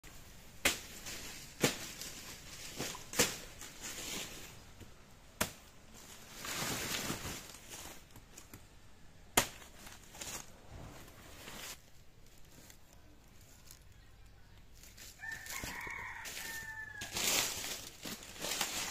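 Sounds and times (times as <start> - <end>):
rustling dry leaves and straw: 0.0 - 8.7, 9.4 - 18.9.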